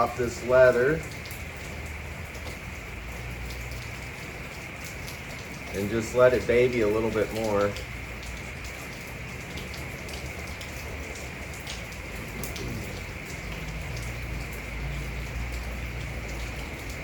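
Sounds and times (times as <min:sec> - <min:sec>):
raindrops tapping: 0:00.0 - 0:17.0
steady rain falling: 0:00.0 - 0:17.0.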